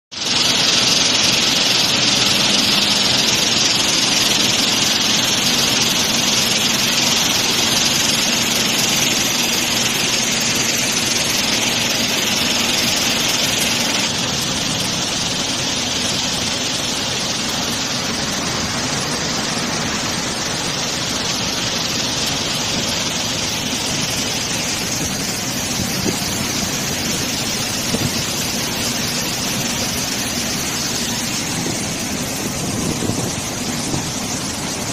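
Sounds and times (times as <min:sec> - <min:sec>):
hiss of water and wet sand: 0:00.2 - 0:34.9
machinery mechanical din: 0:00.2 - 0:34.9.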